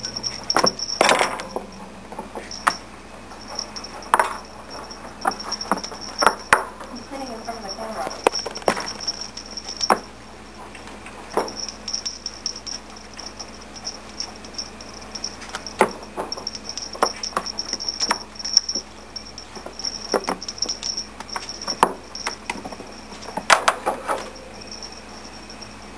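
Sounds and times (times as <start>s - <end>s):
faint high whine: 0.0s - 25.9s
kittens scampering on hard floor: 3.4s - 10.1s, 10.7s - 24.9s.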